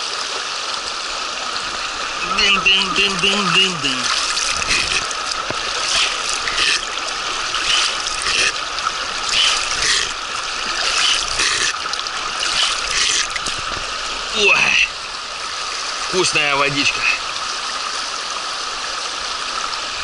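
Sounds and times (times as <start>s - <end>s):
river current rushing: 0.0s - 20.0s.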